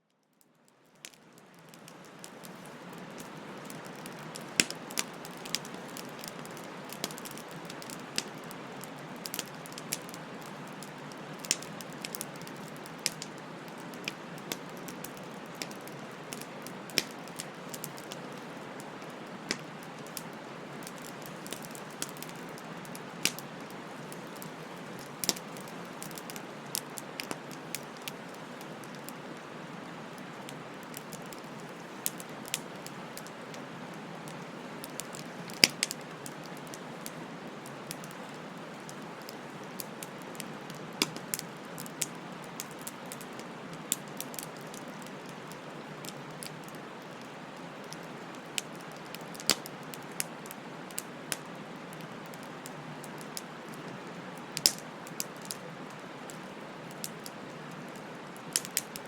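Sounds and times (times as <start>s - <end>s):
wood fire crackling: 0.4s - 59.0s.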